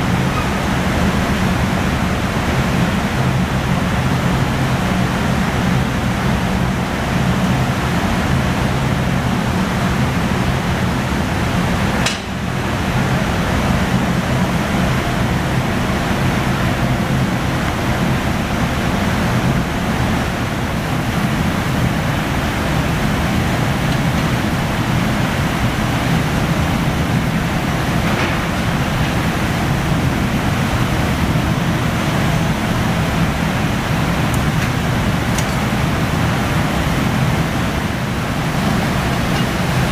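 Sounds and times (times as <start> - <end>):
furnace roar: 0.0 - 39.9
ventilation blowers rushing: 0.0 - 39.9.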